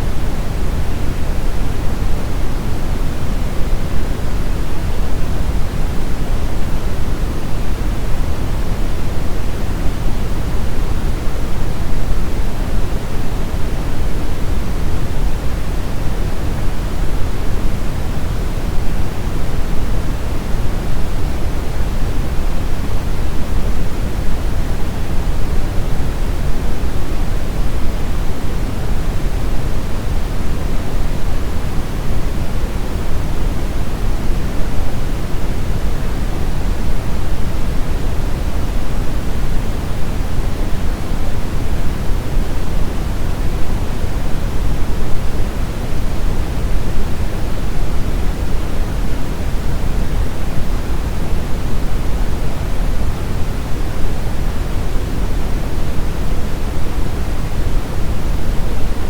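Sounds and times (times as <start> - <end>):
brown noise deep hiss: 0.0 - 59.0.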